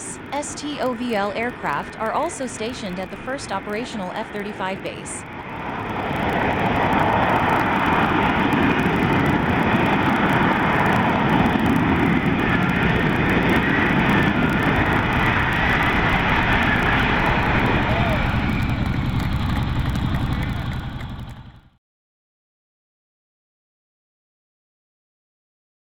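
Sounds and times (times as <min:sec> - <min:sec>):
jet engine hovering: 0:00.0 - 0:21.8.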